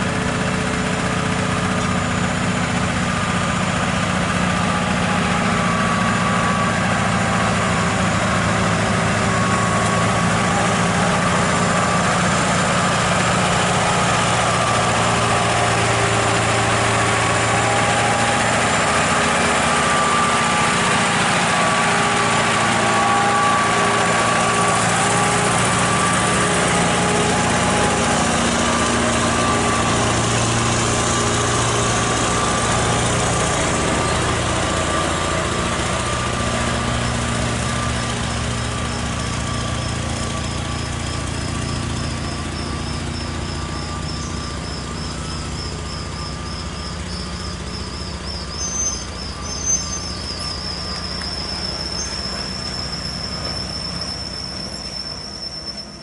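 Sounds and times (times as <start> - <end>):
diesel truck engine at low revs: 0.0 - 56.0.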